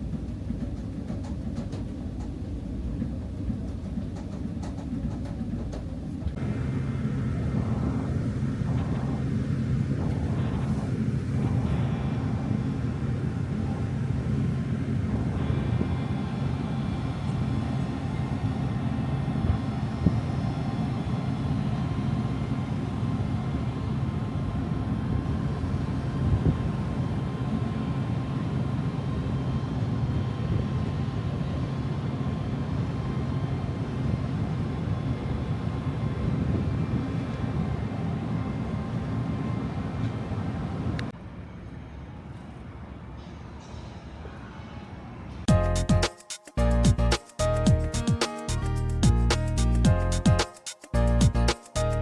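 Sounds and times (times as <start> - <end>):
faint steady hum tones: 0.0 - 46.0
ship engines droning: 0.0 - 50.2.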